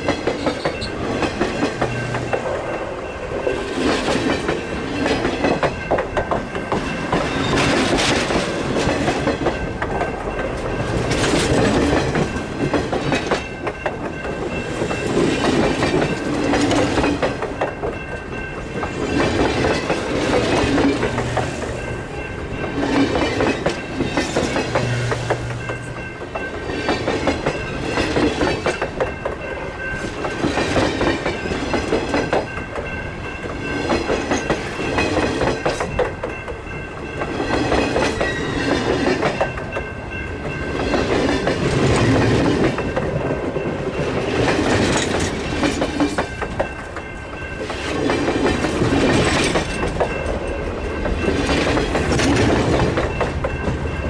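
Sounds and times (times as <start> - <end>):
train wheels clacking over rail joints: 0.0 - 54.0.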